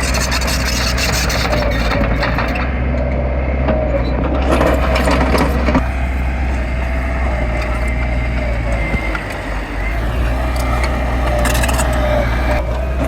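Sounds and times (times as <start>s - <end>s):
diesel machinery running: 0.0s - 13.0s
machinery clanking: 0.0s - 13.0s.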